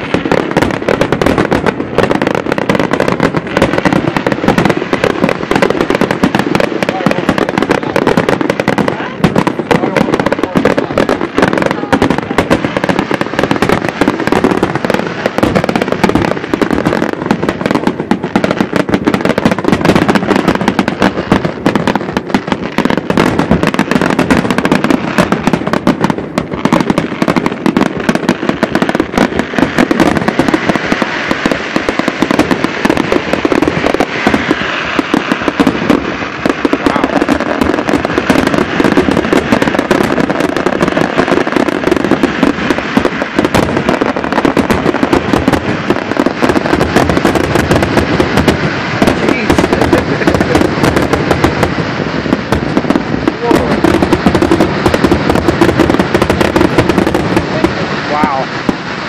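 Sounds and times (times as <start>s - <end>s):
fireworks barrage bursts and crackling: 0.0s - 59.0s.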